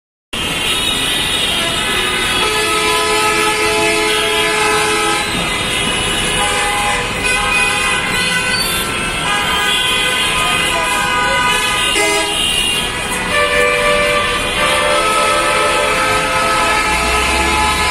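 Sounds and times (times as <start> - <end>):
heavy traffic noise: 0.3 - 17.9
vehicle horns honking: 0.4 - 17.9.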